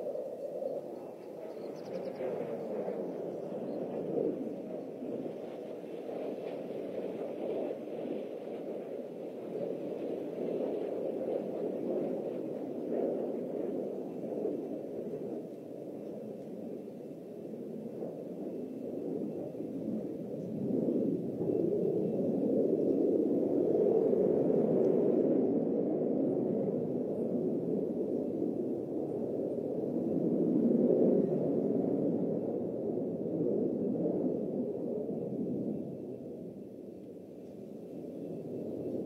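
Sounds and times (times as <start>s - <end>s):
jet noise in flight: 0.0s - 39.0s.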